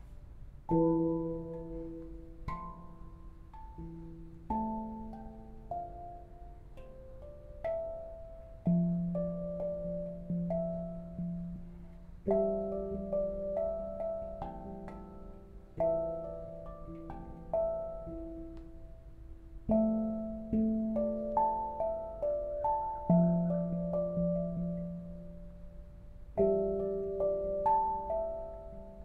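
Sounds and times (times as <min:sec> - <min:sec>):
handpan played with fingers: 0:00.6 - 0:29.0.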